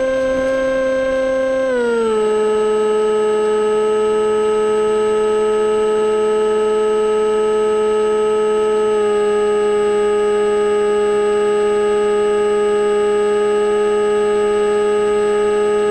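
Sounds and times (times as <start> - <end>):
model plane electric motor whine: 0.0 - 15.9.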